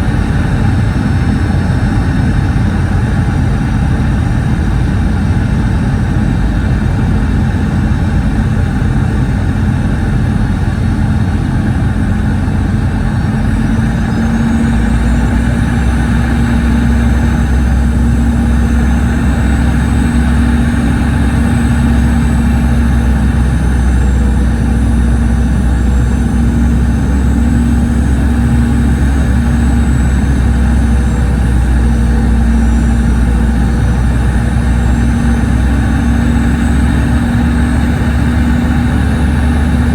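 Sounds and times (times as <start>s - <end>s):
deep engine rumble: 0.0s - 39.9s
faint high whine: 0.0s - 39.9s
jet engines humming in cabin: 0.0s - 39.9s.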